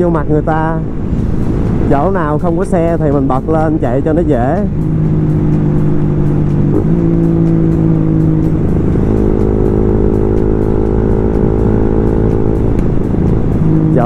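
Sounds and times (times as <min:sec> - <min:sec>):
motorcycle engine cruising: 0:00.0 - 0:14.0
road noise: 0:00.0 - 0:14.0
wind noise: 0:00.0 - 0:14.0.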